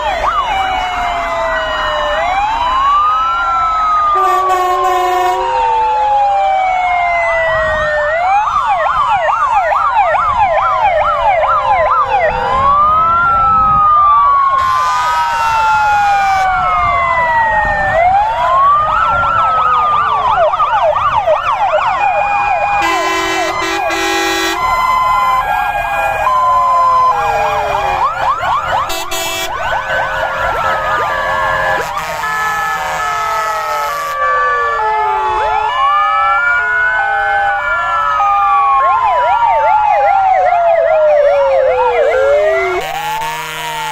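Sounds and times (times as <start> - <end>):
two-tone hi-lo sirens: 0.0 - 43.9
wailing sirens: 0.0 - 43.9
yelping sirens: 0.0 - 43.9.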